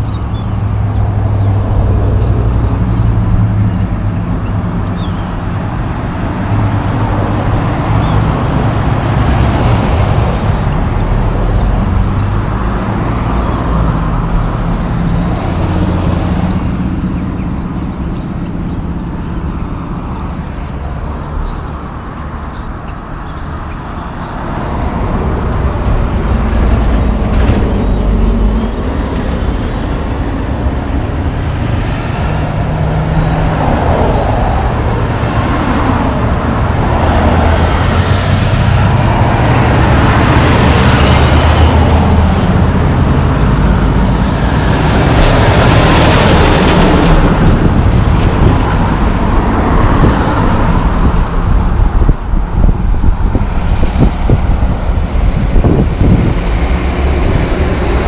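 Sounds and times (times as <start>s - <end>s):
cars passing: 0.0s - 58.0s
heavy truck passing: 0.0s - 58.0s.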